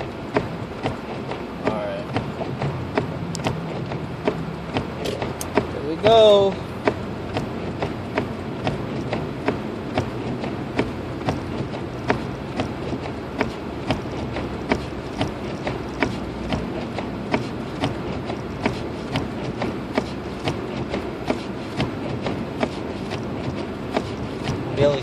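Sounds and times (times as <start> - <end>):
low engine and tyre rumble: 0.0 - 25.0.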